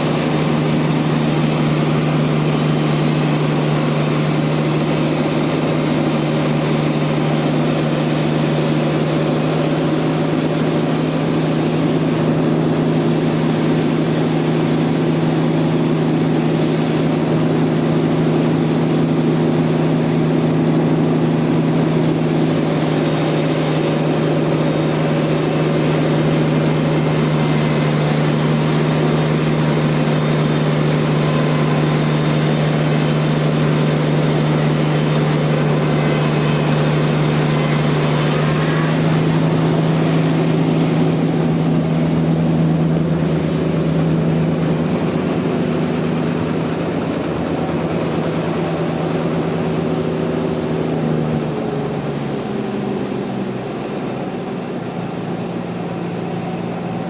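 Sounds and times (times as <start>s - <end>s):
high hiss: 0.0s - 46.6s
sawmill machinery humming: 0.0s - 57.0s.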